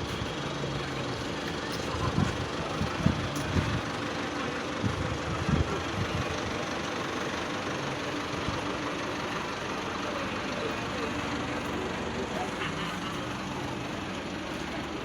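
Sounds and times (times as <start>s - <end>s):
concrete mixer engine running: 0.0s - 15.0s.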